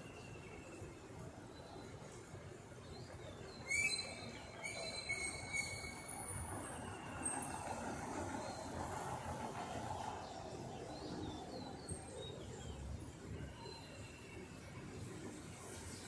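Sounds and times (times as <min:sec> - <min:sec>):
distant city traffic: 0:00.0 - 0:16.0.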